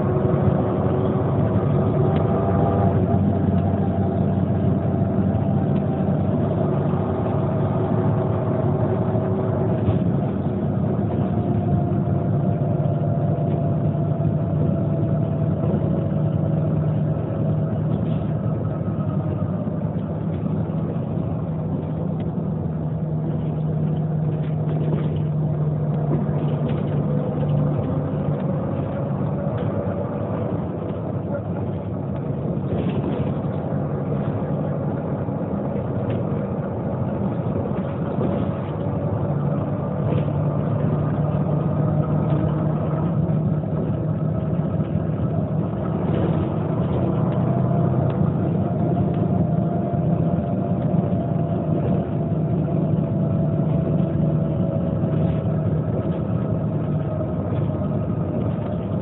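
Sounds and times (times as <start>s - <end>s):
bus engine idling: 0.0s - 59.0s.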